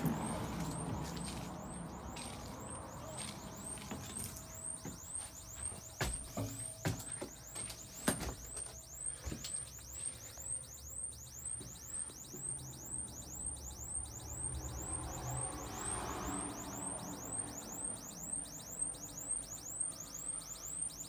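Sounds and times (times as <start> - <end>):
faint high chirp: 0.0 - 21.0.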